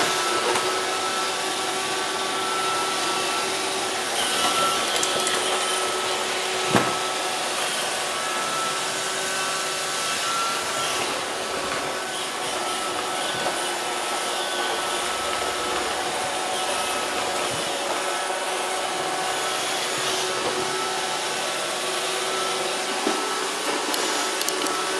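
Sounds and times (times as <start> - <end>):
robot vacuum whirring hum: 0.0 - 24.9.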